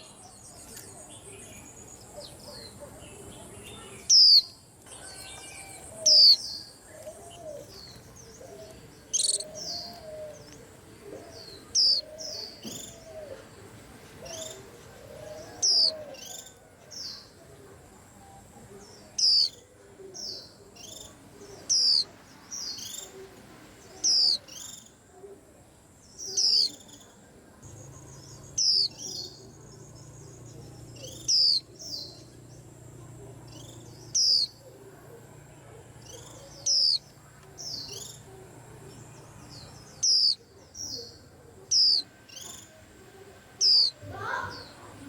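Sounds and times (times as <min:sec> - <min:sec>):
birds chirping sharp high calls: 0:00.0 - 0:13.6, 0:14.2 - 0:17.4, 0:19.1 - 0:19.6, 0:20.2 - 0:23.2, 0:24.0 - 0:25.0, 0:26.1 - 0:32.8, 0:33.4 - 0:34.8, 0:35.9 - 0:45.0
soft bird twittering: 0:00.0 - 0:13.6, 0:14.2 - 0:17.4, 0:18.2 - 0:25.0, 0:26.1 - 0:45.0.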